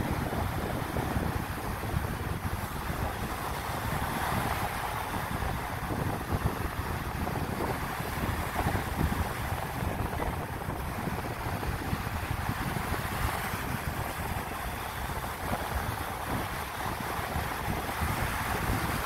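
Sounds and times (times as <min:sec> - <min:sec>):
small waves breaking on sand: 0:00.0 - 0:19.0
wind buffeting microphone: 0:00.0 - 0:19.0.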